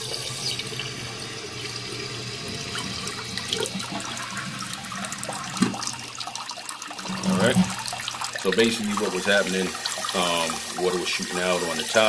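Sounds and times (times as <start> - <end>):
water spraying into toilet tank: 0.0 - 12.0.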